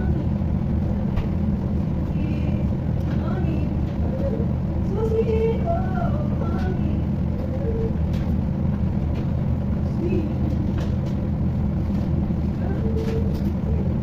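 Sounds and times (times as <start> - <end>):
low rumble and hum: 0.0 - 14.0.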